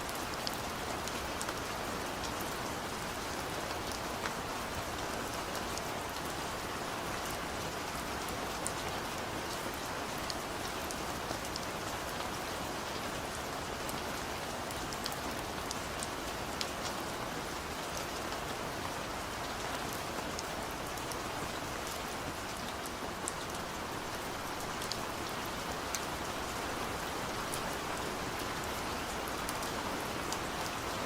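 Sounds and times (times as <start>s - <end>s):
rain drops pattering: 0.0s - 31.0s.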